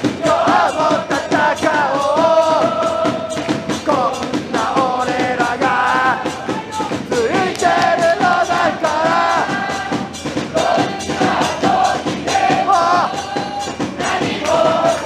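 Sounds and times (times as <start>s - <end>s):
football supporters chanting: 0.0s - 15.0s
regular beat: 0.0s - 15.0s.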